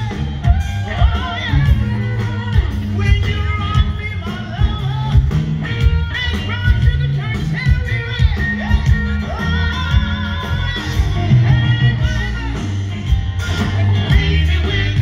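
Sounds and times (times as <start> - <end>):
live blues band: 0.0 - 15.0.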